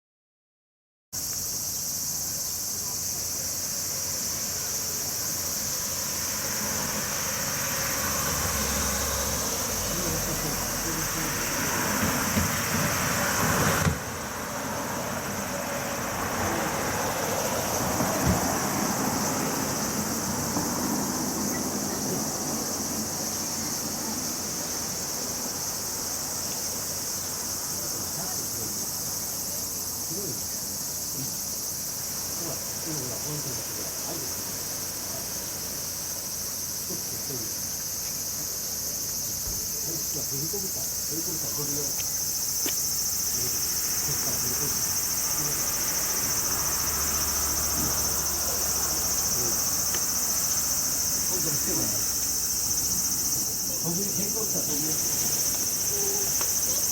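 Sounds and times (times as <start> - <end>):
insect chorus chirring: 1.2 - 56.9.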